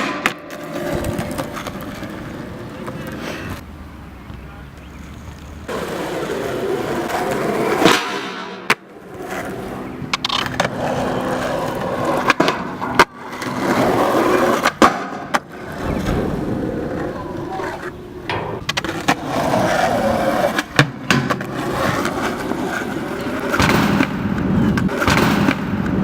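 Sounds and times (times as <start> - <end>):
skateboard popping and landing clacks: 0.0 - 3.6, 5.7 - 26.0
skateboard wheels rolling on pavement: 0.0 - 26.0.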